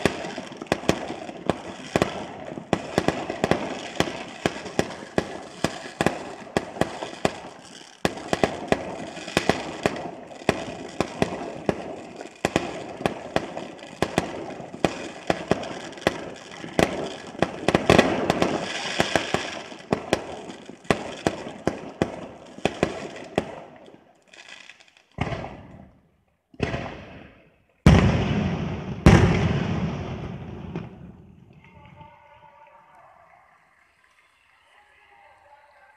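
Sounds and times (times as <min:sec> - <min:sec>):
fireworks bursting and crackling: 0:00.0 - 0:35.9.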